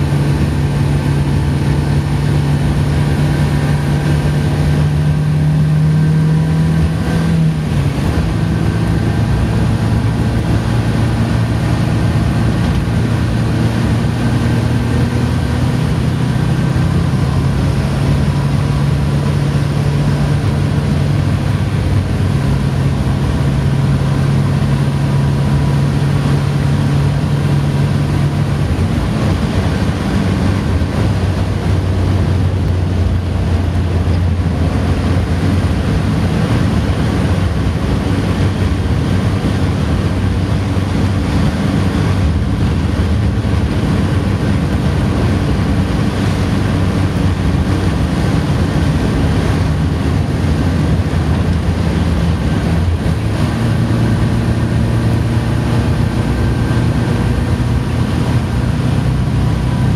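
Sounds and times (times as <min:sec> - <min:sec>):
car engine running: 0:00.0 - 0:59.9
road and wind noise: 0:00.0 - 0:59.9.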